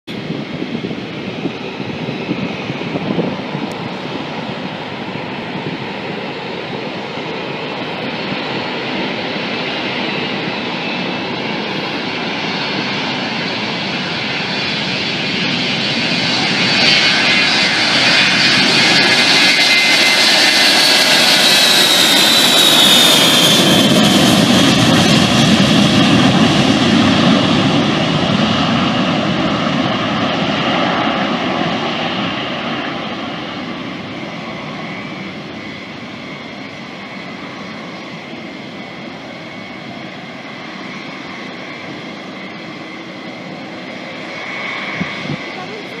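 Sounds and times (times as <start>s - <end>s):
high jet whine: 0.1s - 46.0s
jet engines roaring on takeoff: 0.1s - 46.0s.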